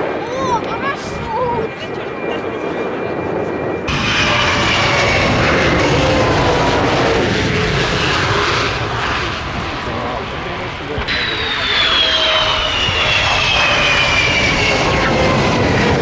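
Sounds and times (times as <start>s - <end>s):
jet engines roaring past: 0.0s - 16.0s.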